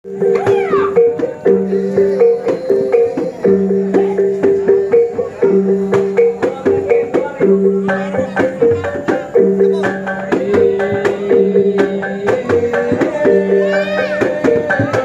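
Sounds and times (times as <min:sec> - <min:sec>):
plucked-string dance music: 0:00.0 - 0:15.0.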